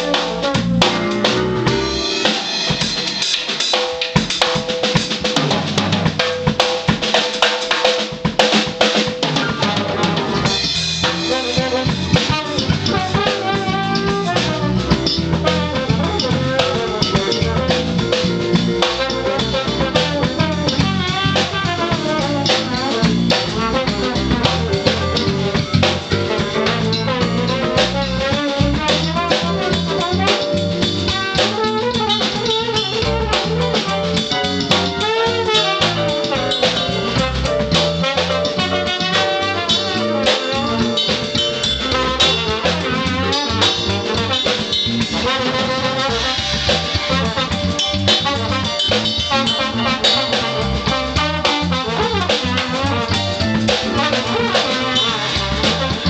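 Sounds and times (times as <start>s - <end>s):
keyboard: 0.0s - 3.7s, 9.3s - 52.4s
bass guitar: 0.0s - 7.4s, 8.0s - 56.0s
drum kit groove: 0.0s - 56.0s
trombone: 0.0s - 56.0s.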